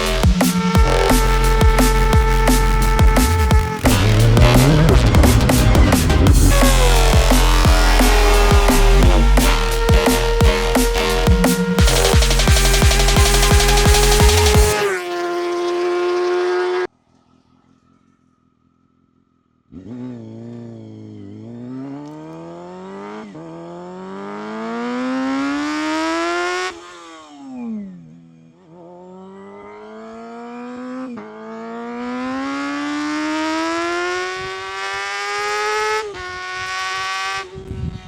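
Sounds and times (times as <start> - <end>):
motorcycle engine revving: 0.0 - 16.9, 17.5 - 38.0.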